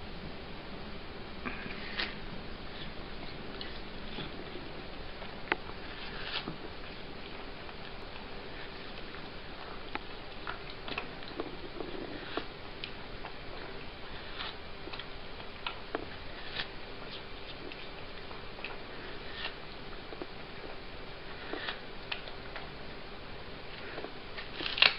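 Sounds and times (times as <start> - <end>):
cat chewing watermelon: 1.4 - 24.9.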